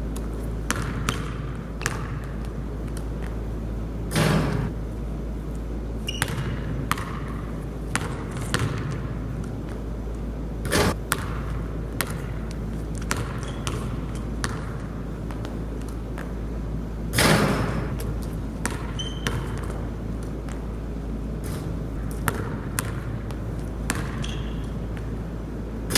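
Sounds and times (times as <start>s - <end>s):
basketball bouncing on hard court: 0.2s - 3.4s, 4.1s - 4.7s, 6.0s - 25.9s.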